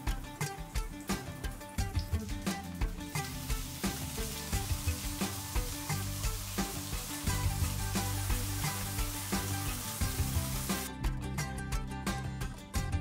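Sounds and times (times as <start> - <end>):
background music with beat: 0.0 - 13.0
burger patties sizzling in oil: 0.1 - 10.9.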